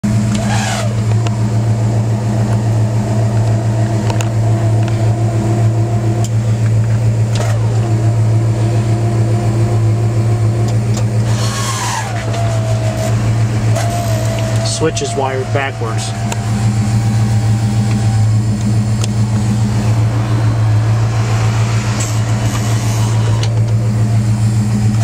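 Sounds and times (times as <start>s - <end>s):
pump motor humming: 0.0s - 25.0s.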